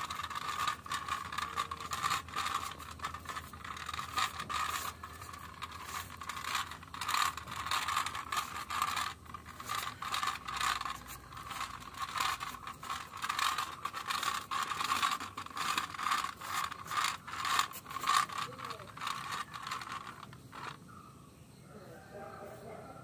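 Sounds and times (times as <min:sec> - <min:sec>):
toy car rattling on concrete: 0:00.0 - 0:20.9.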